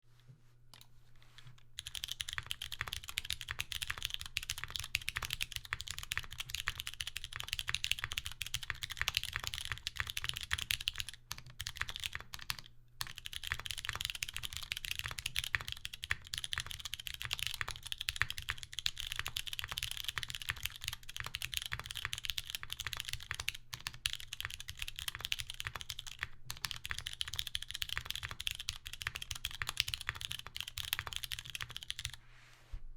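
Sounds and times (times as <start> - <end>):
fast mechanical keyboard typing: 1.8 - 32.2.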